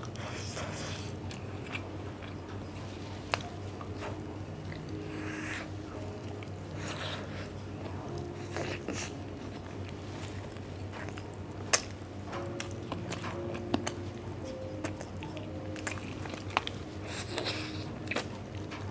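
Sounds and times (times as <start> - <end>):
chewing and biting meat: 0.0 - 18.9.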